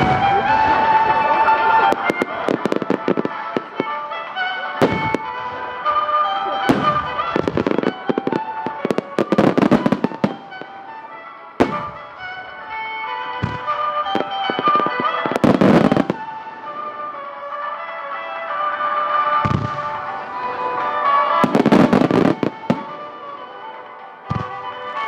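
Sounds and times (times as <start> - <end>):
background music: 0.0 - 25.0
fireworks booming: 0.0 - 25.0
fireworks crackling: 0.0 - 25.0.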